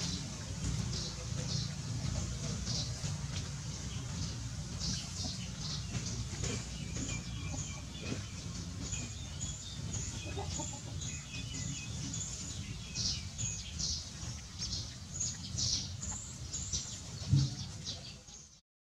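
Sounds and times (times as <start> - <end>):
birds chirping: 0.0 - 18.6.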